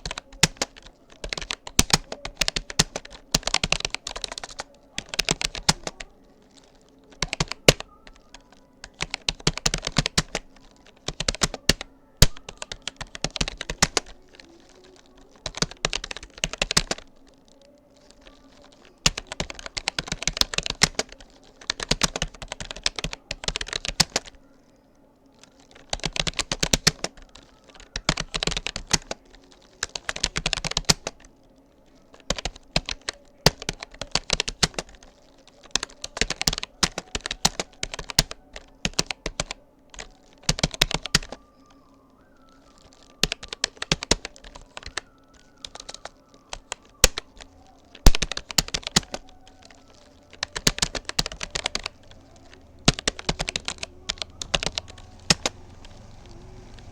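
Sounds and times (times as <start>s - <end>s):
computer keyboard typing: 0.0s - 56.9s.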